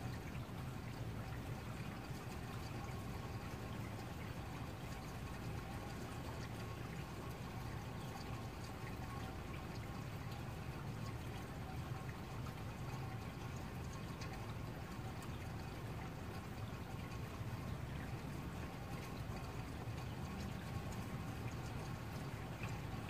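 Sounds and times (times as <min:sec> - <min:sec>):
low steady rumble: 0:00.0 - 0:23.0
steady rain falling: 0:00.0 - 0:23.0.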